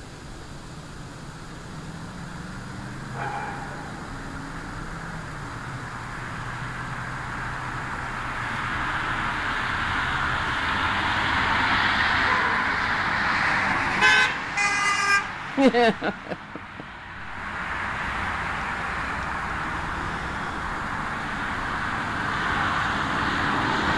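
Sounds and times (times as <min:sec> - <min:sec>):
low engine hum: 0:00.0 - 0:13.9, 0:15.3 - 0:23.9
car approaching: 0:00.0 - 0:23.9.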